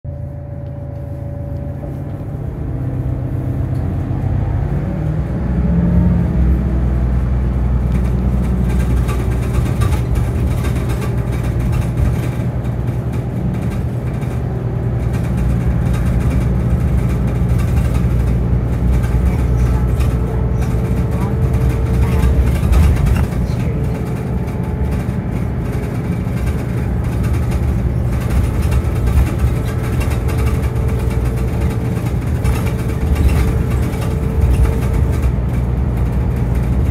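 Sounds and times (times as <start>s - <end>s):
bus engine drone: 0.0s - 36.9s.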